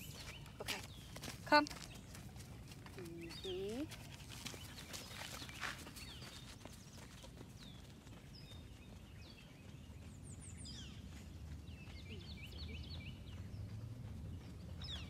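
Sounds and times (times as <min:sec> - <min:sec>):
bird chirping: 0:00.0 - 0:02.4, 0:04.4 - 0:15.0.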